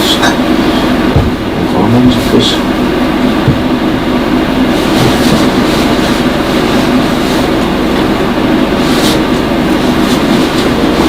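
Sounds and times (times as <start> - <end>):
shopping cart rumbling rattle: 0.2 - 11.0.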